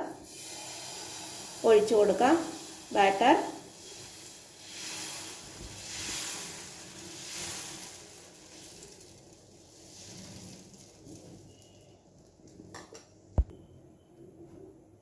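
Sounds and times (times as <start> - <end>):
batter sizzling on hot pan: 0.2 - 12.7.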